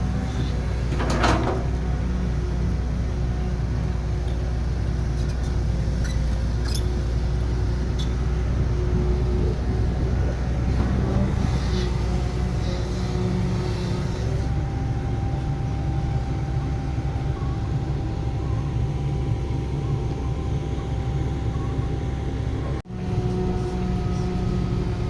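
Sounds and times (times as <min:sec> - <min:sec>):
heavy machinery diesel engine: 0:00.0 - 0:25.0.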